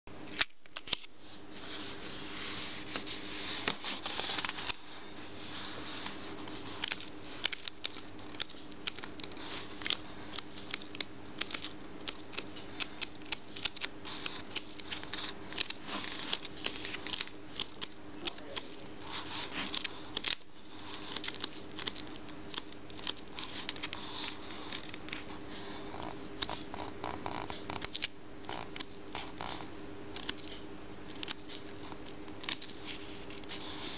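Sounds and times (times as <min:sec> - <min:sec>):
steady low hum: 0:00.1 - 0:33.9
card pages turning: 0:00.3 - 0:33.9.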